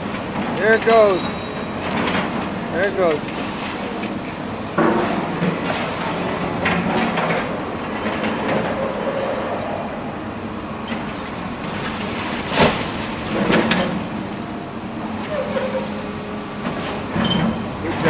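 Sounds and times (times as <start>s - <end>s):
excavator running: 0.0s - 18.0s.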